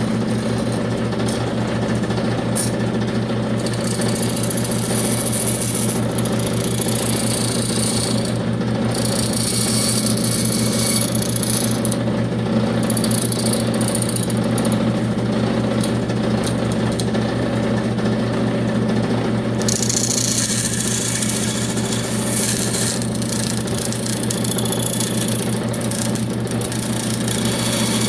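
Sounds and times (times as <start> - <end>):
power saw buzzing: 0.0 - 12.1, 12.7 - 14.8, 19.5 - 28.0.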